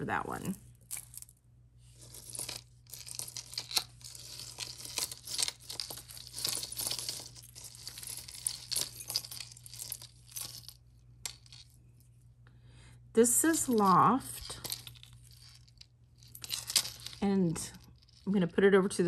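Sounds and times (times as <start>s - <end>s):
jewelry rustling and clinking: 0.0s - 12.4s, 13.2s - 18.6s.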